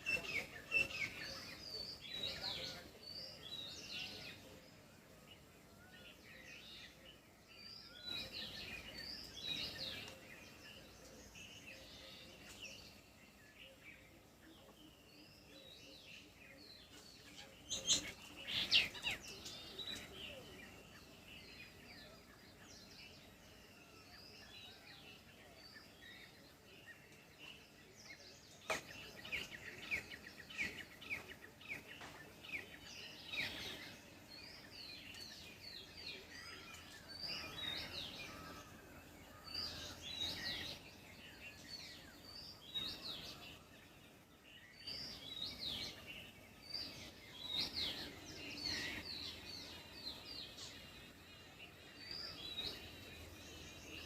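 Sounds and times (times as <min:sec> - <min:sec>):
wild birds chirping and singing: 0:00.0 - 0:54.0.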